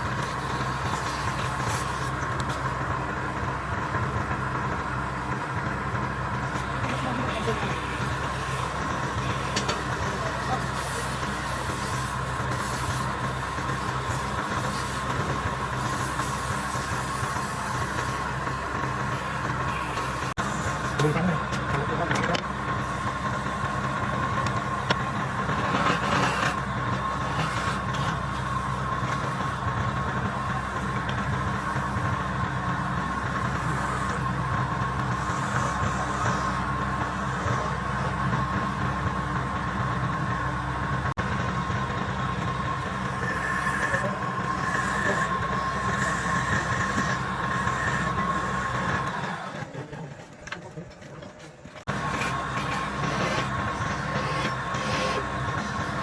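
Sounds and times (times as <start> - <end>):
lathe motor humming: 0.0 - 56.0.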